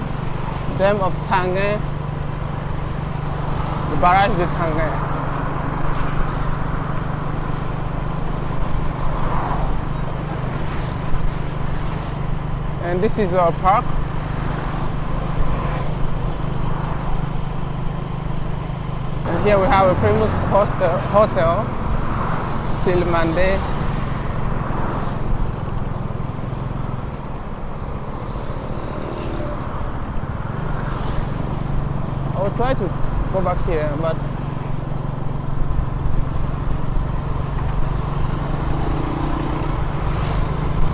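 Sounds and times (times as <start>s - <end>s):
motorcycle engine hum: 0.0s - 40.9s
road and wind noise: 0.0s - 40.9s
vehicles passing: 0.0s - 40.9s.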